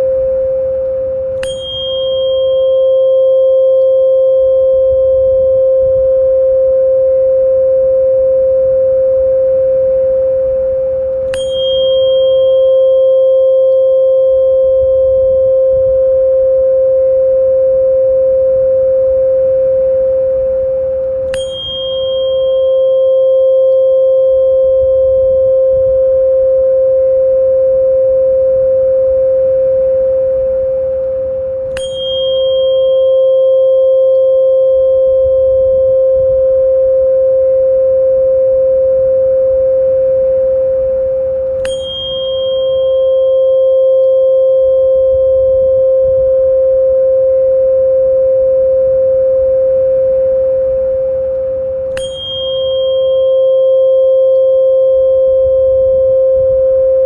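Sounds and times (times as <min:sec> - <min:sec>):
tuning fork humming: 0:00.0 - 0:57.0
tuning fork strike ting: 0:00.0 - 0:57.0.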